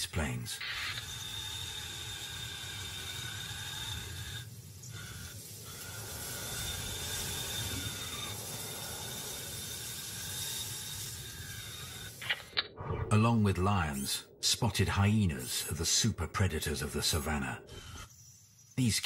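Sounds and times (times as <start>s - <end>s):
high motor whine: 0.9s - 18.8s.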